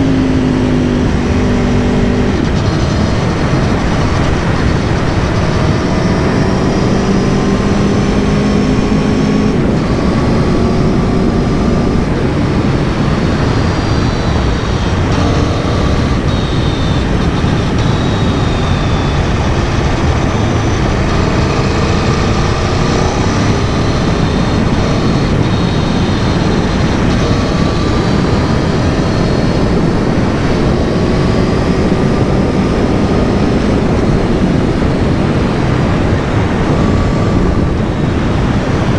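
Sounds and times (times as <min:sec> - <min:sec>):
loud rush of noise: 0:00.0 - 0:38.9
motorcycle engine cruising: 0:00.0 - 0:38.9.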